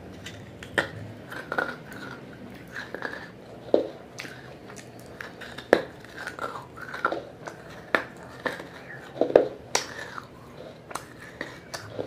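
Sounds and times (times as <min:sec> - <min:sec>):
clay pieces crunching when chewed: 0:00.1 - 0:12.0.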